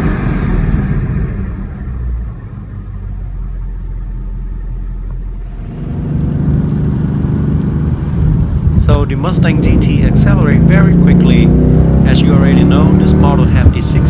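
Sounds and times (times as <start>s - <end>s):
car engine and exhaust: 0.0s - 14.0s.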